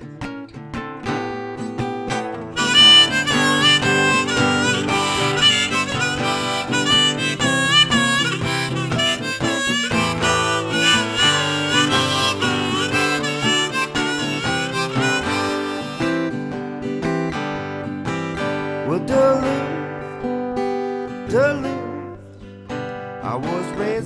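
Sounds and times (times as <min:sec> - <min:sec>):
strummed acoustic guitar: 0:00.0 - 0:24.0
harmonica playing blues: 0:02.1 - 0:22.2.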